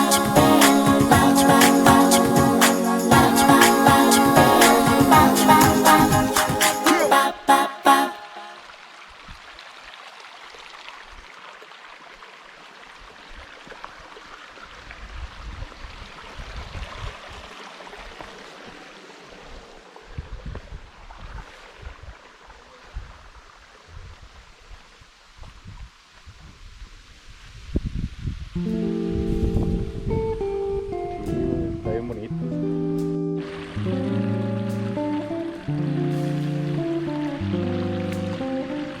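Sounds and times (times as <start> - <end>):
rushing water: 0.0 - 26.4, 33.4 - 39.0.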